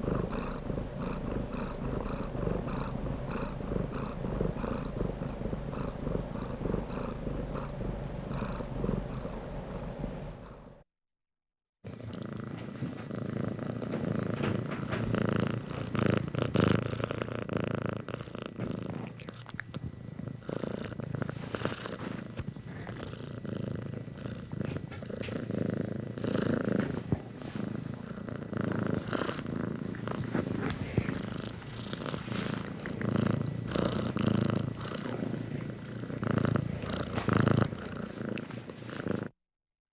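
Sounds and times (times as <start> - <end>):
cat purring: 0.0 - 10.9, 11.9 - 39.4.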